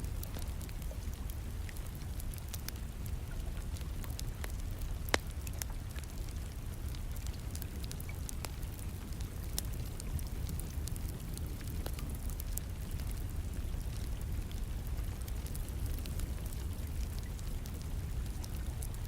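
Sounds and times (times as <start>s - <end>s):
rain: 0.0s - 19.0s
wood fire crackling and popping: 0.0s - 19.0s.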